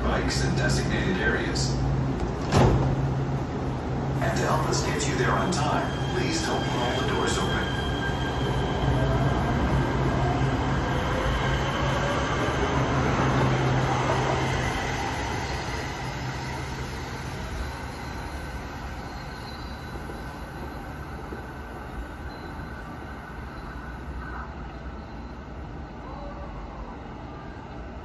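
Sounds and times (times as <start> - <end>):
train wheel noise and hum: 0.0 - 28.0.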